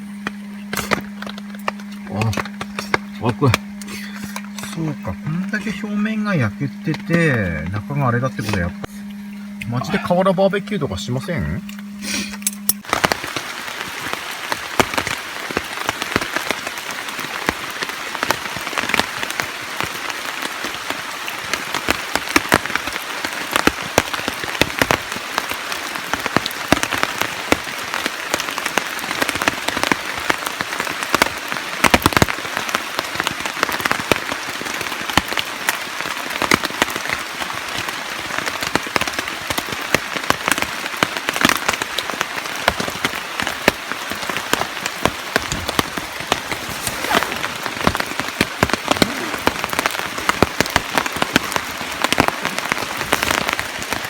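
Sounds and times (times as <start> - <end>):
rain drops ticking on surface: 0.0 - 54.0.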